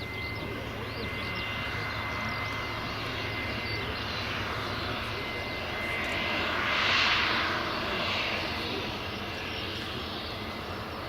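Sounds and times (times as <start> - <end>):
jet airliner landing: 0.0 - 11.0.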